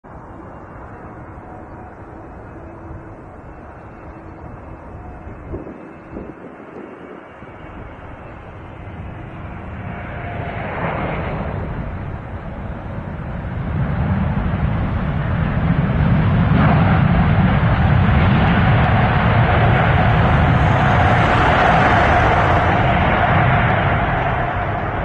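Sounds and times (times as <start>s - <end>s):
airplane engine roaring: 0.0s - 25.0s.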